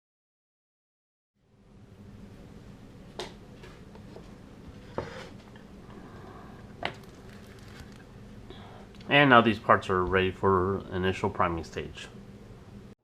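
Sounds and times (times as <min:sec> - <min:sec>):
steady low hum: 0:01.4 - 0:13.0.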